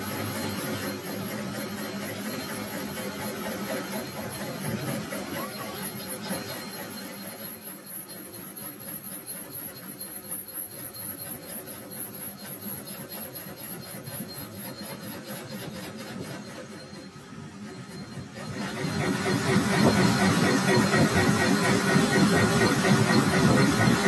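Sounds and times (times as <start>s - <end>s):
high-pitched whine: 0.0s - 24.0s
lathe cutting steel: 0.0s - 24.0s.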